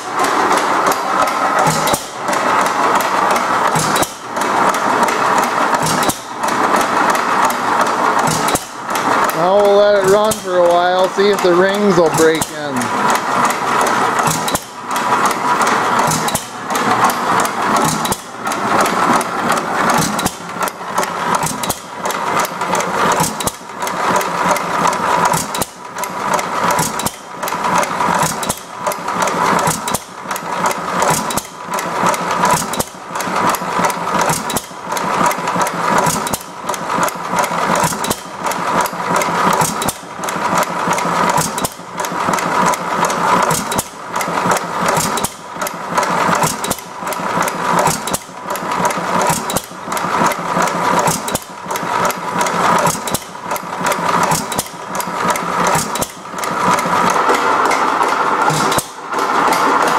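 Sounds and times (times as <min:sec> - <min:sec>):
engine clattering: 0:00.0 - 0:59.9.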